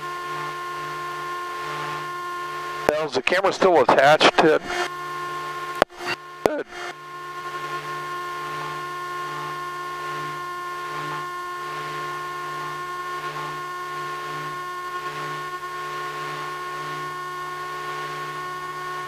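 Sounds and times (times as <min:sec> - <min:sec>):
intercom hum with tones: 0:00.0 - 0:19.0.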